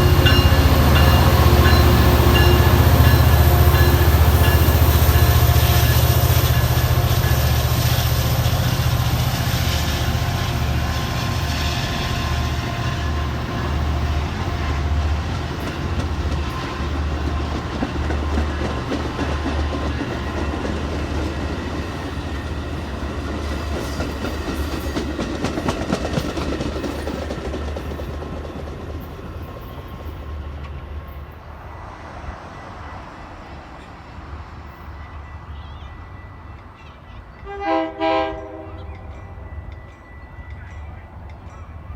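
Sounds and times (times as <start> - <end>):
train rumbling past: 0.0 - 41.9.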